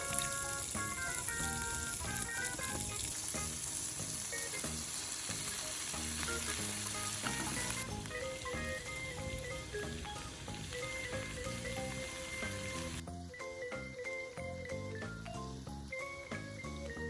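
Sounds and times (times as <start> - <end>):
background music: 0.0 - 17.0
beef sizzling in a pot: 0.0 - 17.0.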